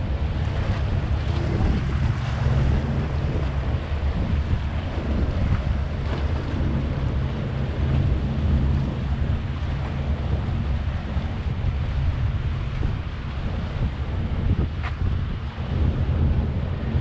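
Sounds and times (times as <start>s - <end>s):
waves washing against rocks: 0.0s - 17.0s
wind buffeting microphone: 0.0s - 17.0s.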